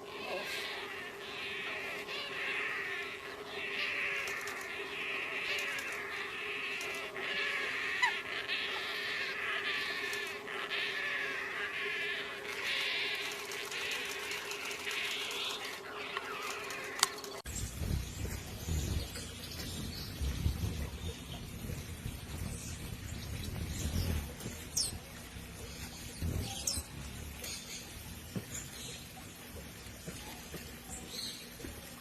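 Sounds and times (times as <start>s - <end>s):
small bird buzzy trills: 0.0s - 32.0s
steady low hum: 0.0s - 32.0s.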